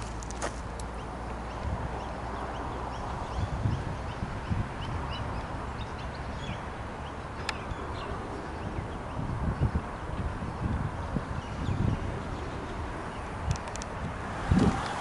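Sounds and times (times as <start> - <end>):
small birds chirping: 0.0 - 15.0
wind buffeting microphone: 0.0 - 15.0.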